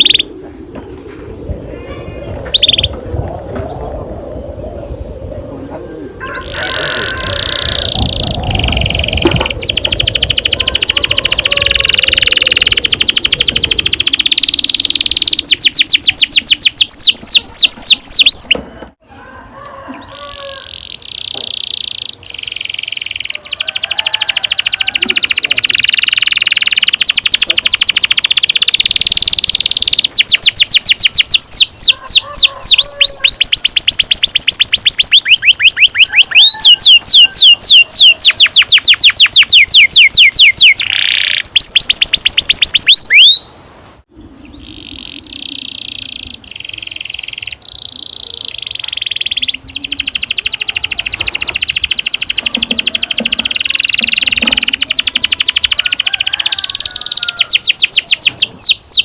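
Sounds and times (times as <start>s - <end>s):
canary singing trills: 0.0s - 0.4s, 1.3s - 3.0s, 5.8s - 18.6s, 20.0s - 43.5s, 44.2s - 59.0s.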